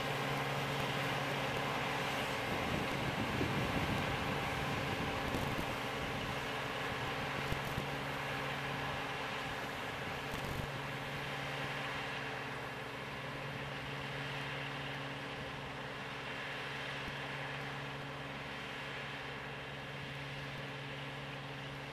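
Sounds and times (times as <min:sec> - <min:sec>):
combine harvester running: 0:00.0 - 0:21.9.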